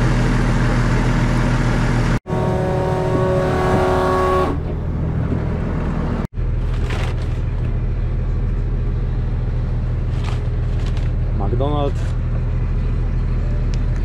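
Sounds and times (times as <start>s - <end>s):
combine harvester engine drone: 0.0s - 14.0s.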